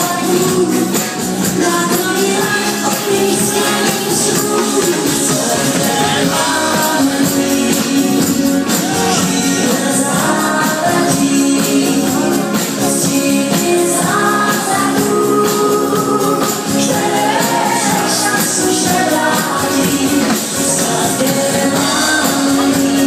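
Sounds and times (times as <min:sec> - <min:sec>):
men singing together: 0:02.2 - 0:23.0.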